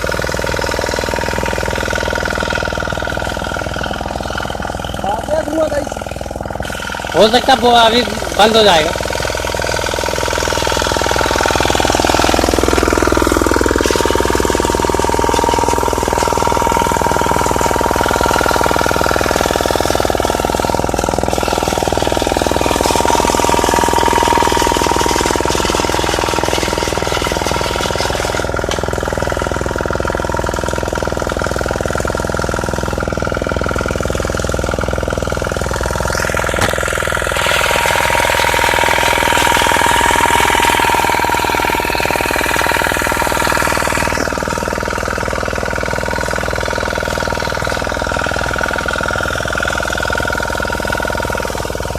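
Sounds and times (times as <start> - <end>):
generator engine running: 0.0 - 51.9.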